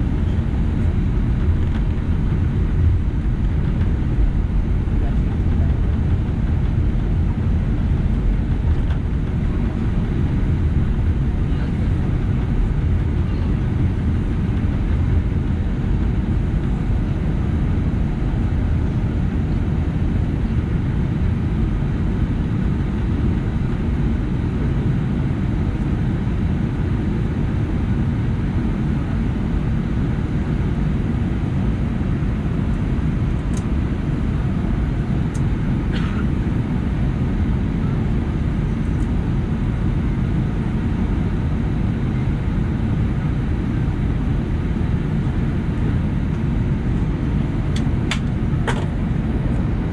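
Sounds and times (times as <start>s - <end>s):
jet engines idling rumble: 0.0s - 49.9s.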